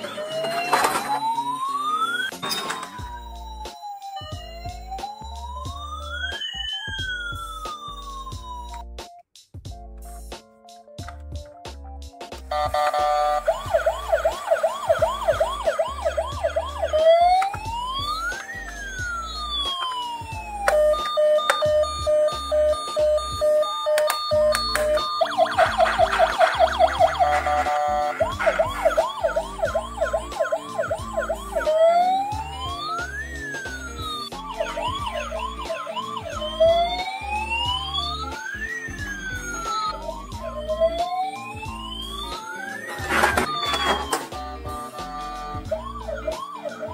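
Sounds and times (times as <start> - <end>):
toy electronic siren: 0.0 - 8.8, 12.5 - 46.9.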